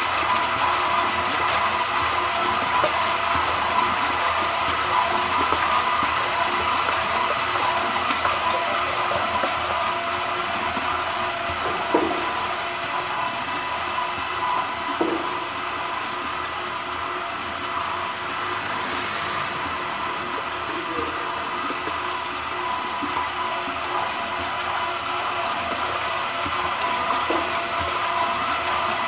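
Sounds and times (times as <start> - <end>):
mixer motor whirring: 0.0 - 29.0.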